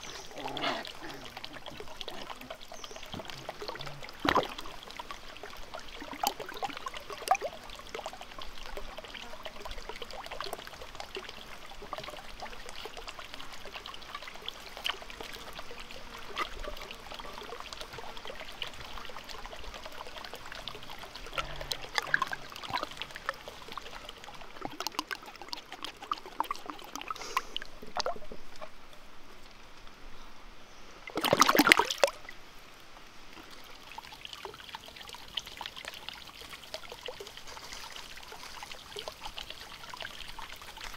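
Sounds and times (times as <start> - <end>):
drips and small splashes: 0.0 - 29.9, 31.0 - 40.9
water trickling into pond: 0.0 - 40.9.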